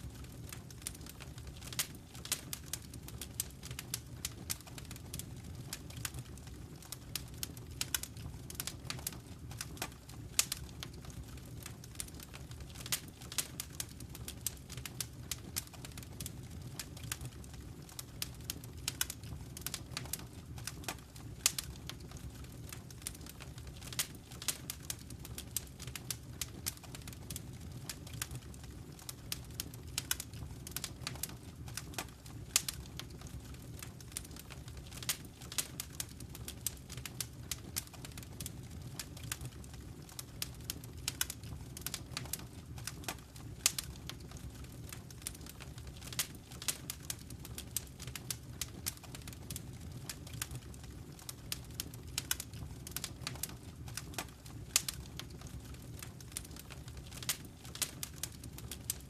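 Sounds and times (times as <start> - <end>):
fire pops and snaps: 0.0 - 59.0
low rumble of burning fire: 0.0 - 59.0.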